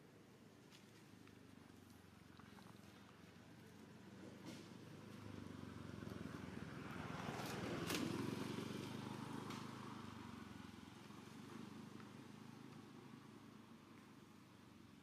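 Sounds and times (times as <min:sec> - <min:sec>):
motor vehicle passing: 0:02.1 - 0:14.9.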